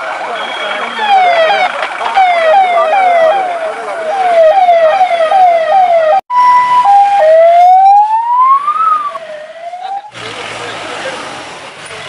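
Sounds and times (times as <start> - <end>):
ambulance siren: 0.5 - 10.2.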